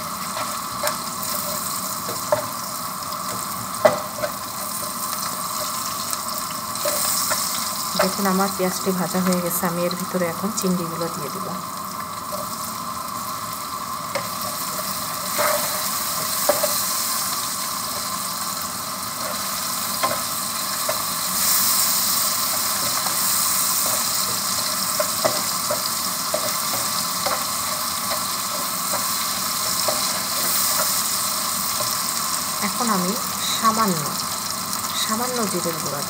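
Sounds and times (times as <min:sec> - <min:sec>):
prawns sizzling in oil: 0:00.0 - 0:36.0.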